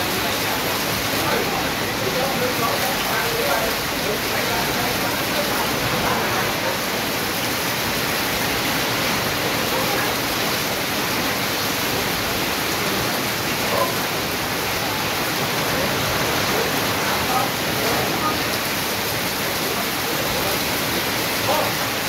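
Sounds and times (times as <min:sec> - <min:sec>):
heavy rain on metal roof: 0:00.0 - 0:22.0.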